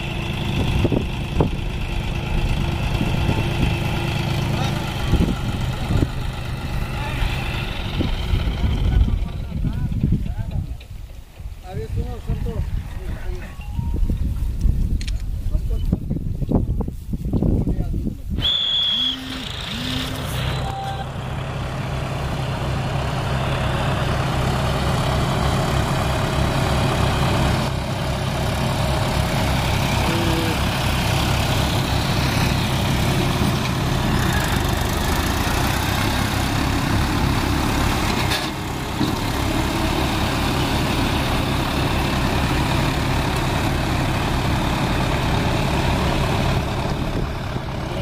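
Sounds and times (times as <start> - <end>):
diesel tractor engines running: 0.0 - 48.0.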